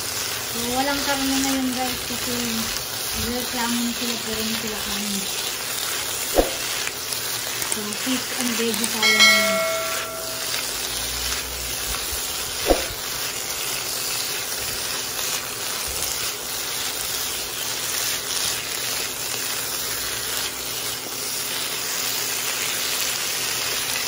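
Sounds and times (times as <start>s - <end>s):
vegetables sizzling in wok: 0.0s - 24.0s.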